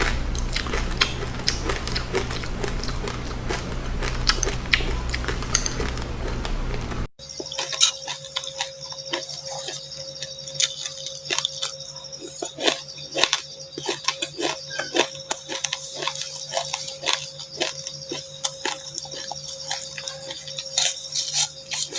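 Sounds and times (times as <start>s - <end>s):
crunchy chewing: 0.0s - 21.9s
faint steady hum: 0.0s - 21.9s.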